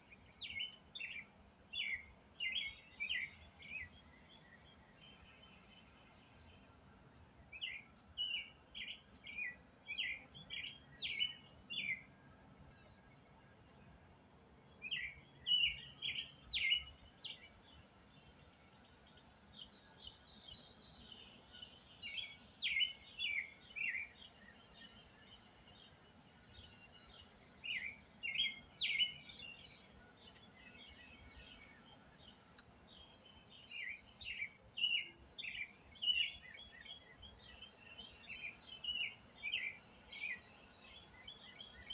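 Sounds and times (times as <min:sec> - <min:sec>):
faint high-pitched hum: 0:00.0 - 0:41.9
songbird chirping: 0:00.0 - 0:41.9.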